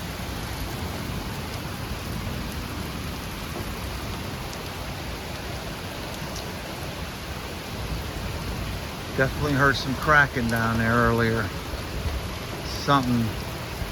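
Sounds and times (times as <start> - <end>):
heavy rain hissing: 0.0 - 13.9.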